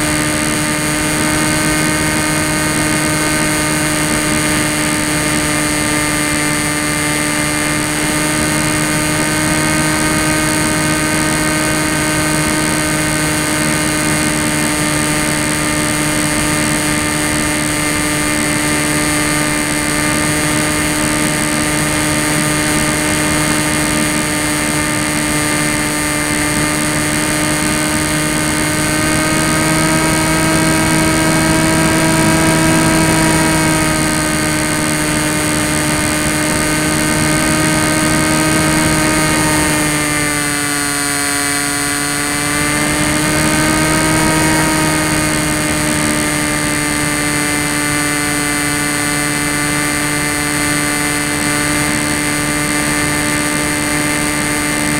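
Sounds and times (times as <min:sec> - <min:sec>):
electric motor and propeller whining: 0:00.0 - 0:54.9.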